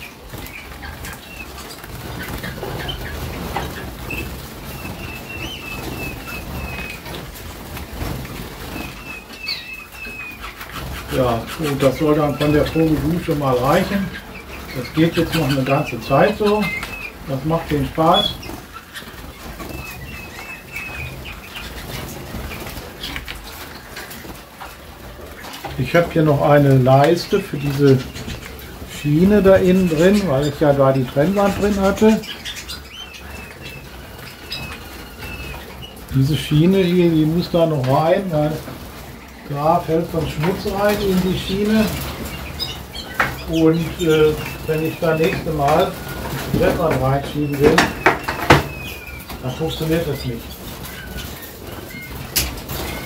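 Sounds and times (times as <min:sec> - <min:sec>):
birds flapping wings: 0:00.0 - 0:53.0
canary chirps: 0:00.0 - 0:53.0.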